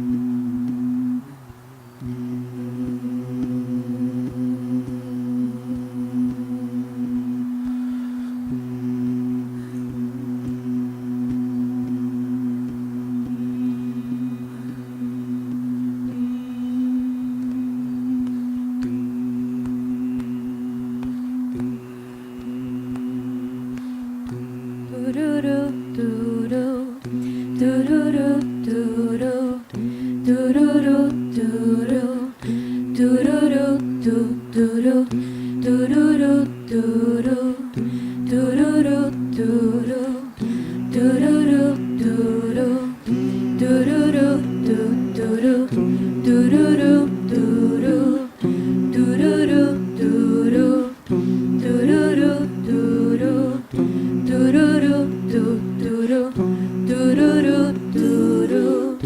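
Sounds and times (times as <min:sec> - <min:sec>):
vocal group humming chords: 0:00.0 - 0:59.0
wordless vocal melody: 0:00.0 - 0:59.0.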